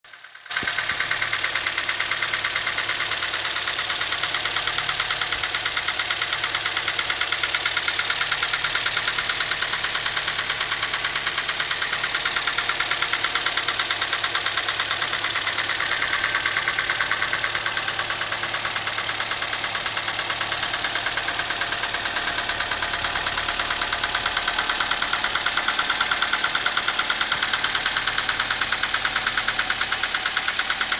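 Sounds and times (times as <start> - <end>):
engine running with valvetrain clatter: 0.1 - 30.9.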